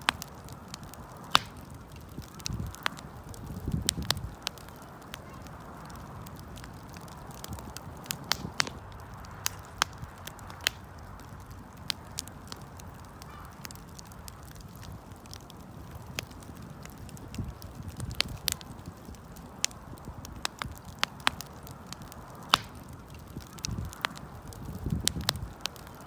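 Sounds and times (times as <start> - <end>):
campfire crackling and popping: 0.0 - 26.0
low rustle of flames: 0.0 - 26.0.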